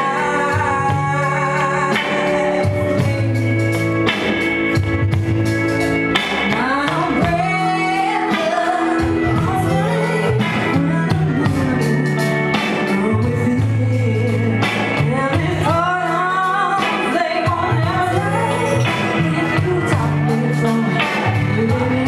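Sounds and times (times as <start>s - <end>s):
woman singing into microphone: 0.0s - 4.4s, 6.4s - 22.0s
low bass notes: 0.0s - 8.2s, 9.0s - 16.8s, 17.4s - 22.0s
electric guitar: 0.0s - 22.0s
keyboard: 0.0s - 22.0s.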